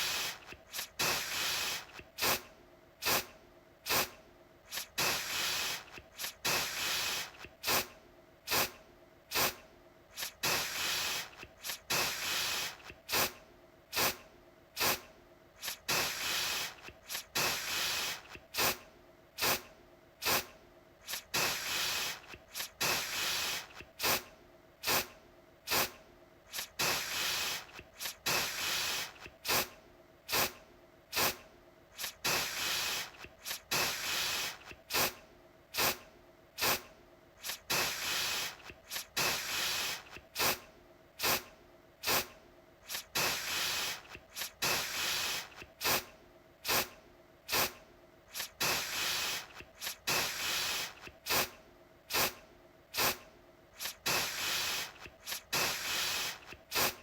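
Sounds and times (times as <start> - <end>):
aerosol can spraying: 0.0 - 3.3, 3.9 - 7.9, 8.5 - 14.2, 14.8 - 18.8, 19.4 - 25.1, 25.7 - 29.7, 30.3 - 31.4, 32.0 - 36.0, 36.6 - 40.6, 41.2 - 52.4, 53.0 - 53.2, 53.8 - 57.0.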